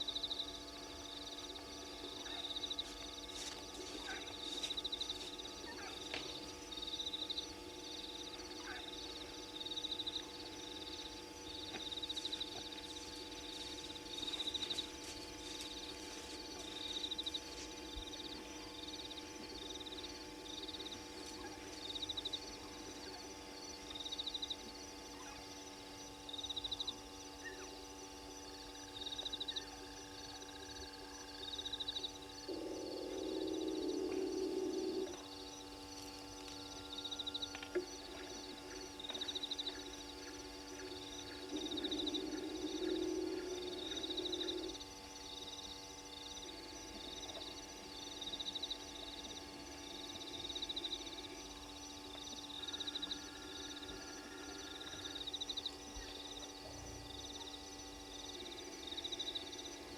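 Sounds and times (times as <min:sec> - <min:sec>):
continuous insect drone: 0:00.0 - 0:59.9
high-pitched pulsing frog calls: 0:03.9 - 0:23.3, 0:28.9 - 0:59.9.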